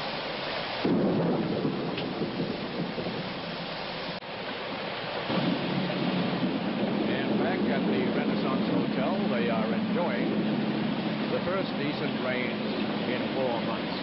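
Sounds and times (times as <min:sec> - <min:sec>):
heavy rain pouring: 0:00.0 - 0:14.0
deep rumble: 0:00.9 - 0:04.2, 0:05.3 - 0:14.0.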